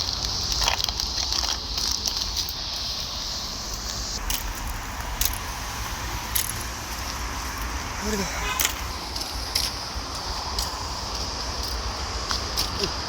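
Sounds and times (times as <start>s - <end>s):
high steady hiss: 0.0s - 13.0s
low traffic rumble: 0.0s - 13.0s.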